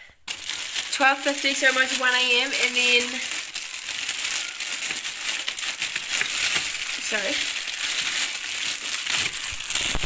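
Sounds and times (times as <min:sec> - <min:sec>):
crackly rustling and crinkling: 0:00.0 - 0:10.0.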